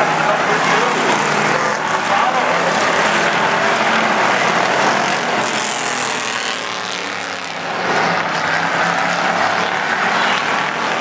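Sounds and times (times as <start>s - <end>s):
racing car engines droning: 0.0s - 11.0s.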